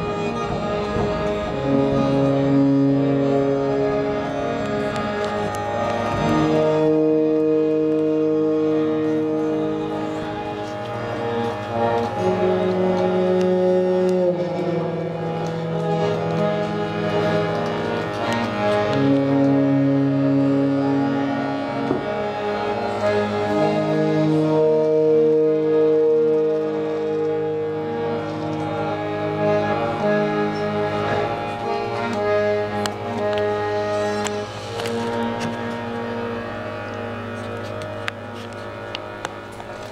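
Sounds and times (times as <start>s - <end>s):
band playing slow held notes: 0.0s - 39.9s
bowed small stringed instrument: 0.0s - 39.9s
steady low drone: 0.0s - 39.9s.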